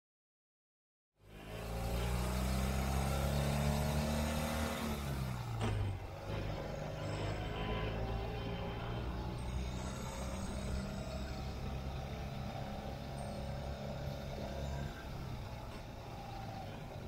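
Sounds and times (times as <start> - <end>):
motorcycle engine accelerating: 1.2 - 17.0
road noise: 1.2 - 17.0.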